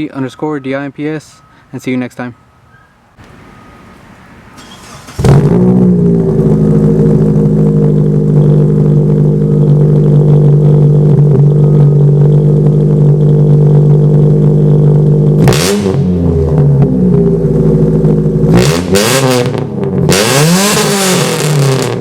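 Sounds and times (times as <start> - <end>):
car engine starting and idling: 3.2 - 22.0.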